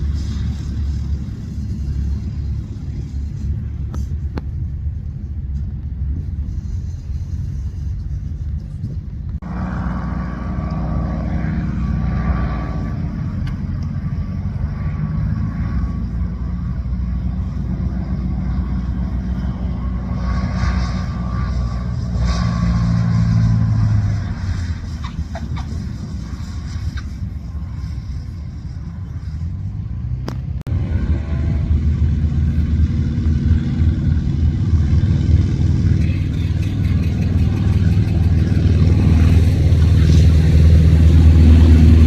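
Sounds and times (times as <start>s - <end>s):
engine running: 0.0s - 42.0s
steady whine: 0.0s - 42.0s.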